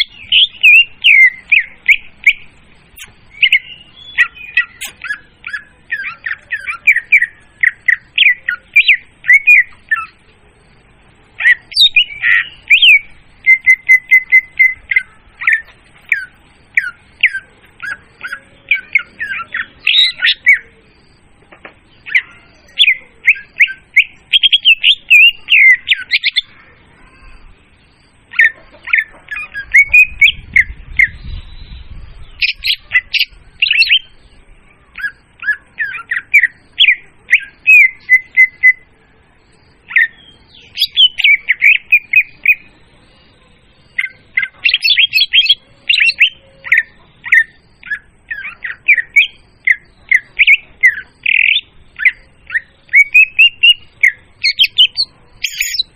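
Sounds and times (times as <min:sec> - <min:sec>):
bird song with chirps and whistles: 0:00.0 - 0:55.9.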